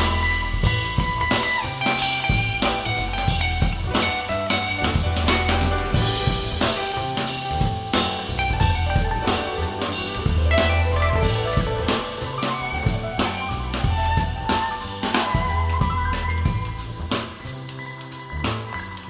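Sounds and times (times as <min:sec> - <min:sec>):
deep bass line: 0:00.0 - 0:19.0
drum kit steady beat: 0:00.0 - 0:19.0.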